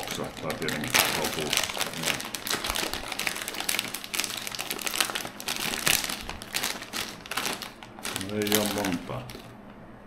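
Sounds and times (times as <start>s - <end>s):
plastic packet crinkling: 0.0s - 9.6s.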